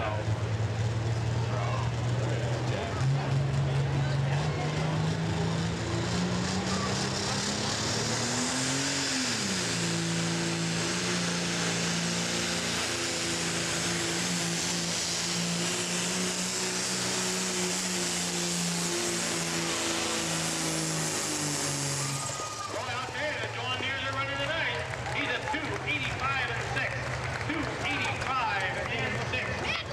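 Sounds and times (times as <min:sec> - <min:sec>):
diesel tractor engine under load: 0:00.0 - 0:29.9.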